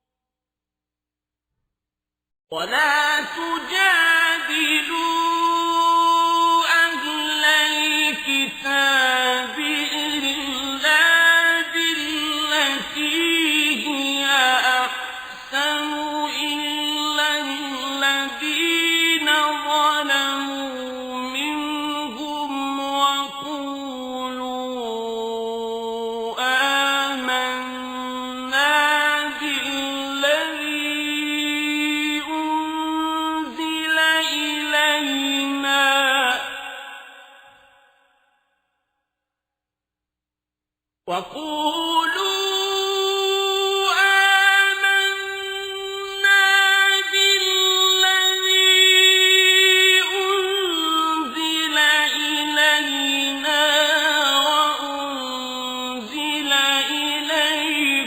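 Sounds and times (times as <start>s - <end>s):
man reciting in melodic chant: 2.5s - 37.5s, 41.1s - 58.0s.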